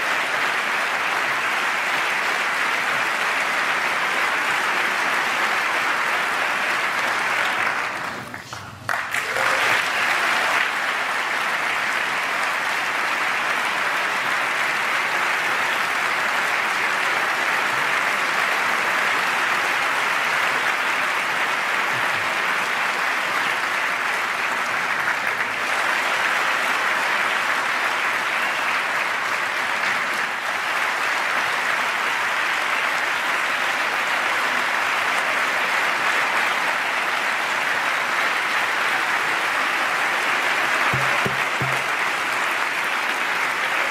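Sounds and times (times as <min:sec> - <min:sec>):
crowd applauding: 0:00.0 - 0:43.9.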